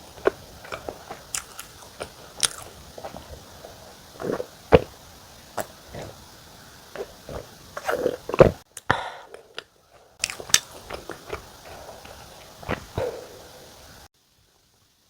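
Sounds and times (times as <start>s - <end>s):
chewing and wet mouth sounds: 0.0s - 14.1s.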